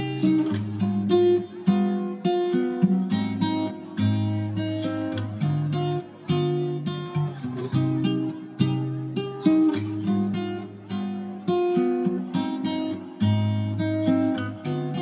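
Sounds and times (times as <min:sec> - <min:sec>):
acoustic guitar melody: 0:00.0 - 0:15.0.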